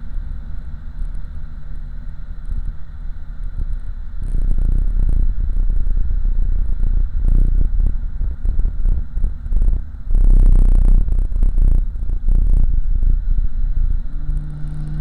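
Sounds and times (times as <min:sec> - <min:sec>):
car engine rumbling inside car: 0:02.3 - 0:15.0.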